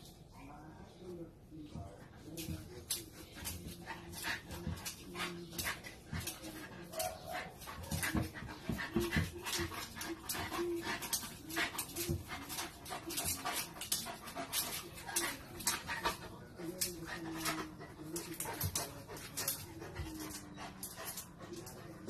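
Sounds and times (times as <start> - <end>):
dog panting: 2.0 - 22.0.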